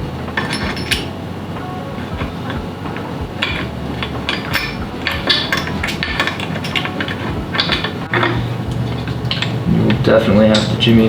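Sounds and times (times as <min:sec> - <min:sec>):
metal gears clicking and clinking: 0:00.0 - 0:01.2, 0:02.0 - 0:11.0.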